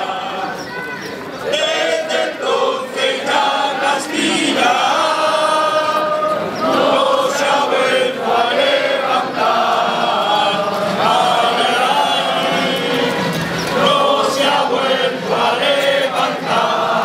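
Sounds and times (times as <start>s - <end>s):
crowd singing in unison: 0.0s - 17.0s.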